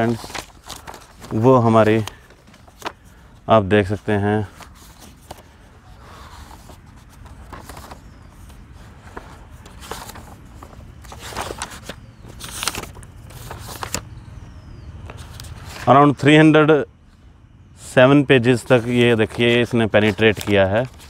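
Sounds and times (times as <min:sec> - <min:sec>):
book pages flipping: 0:00.0 - 0:15.9, 0:18.6 - 0:21.0.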